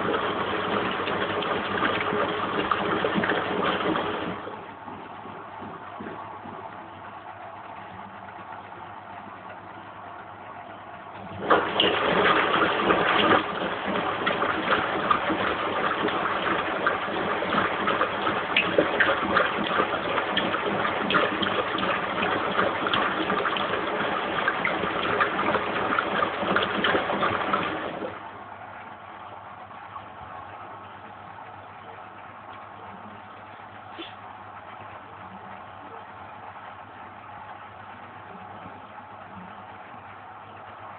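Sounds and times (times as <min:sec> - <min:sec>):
washing machine water rushing: 0:00.0 - 0:40.9.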